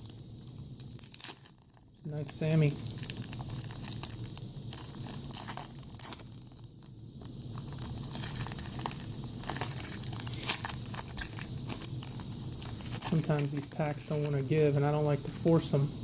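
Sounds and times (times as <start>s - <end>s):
plastic wrapper crinkling and tearing: 0.0s - 15.8s.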